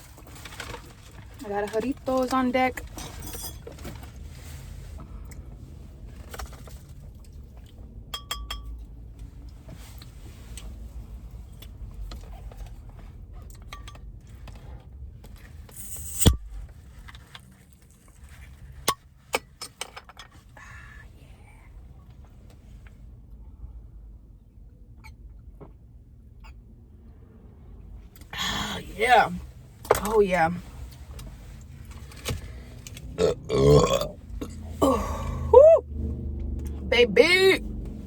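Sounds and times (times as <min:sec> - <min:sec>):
low steady rumble: 0:00.0 - 0:38.0.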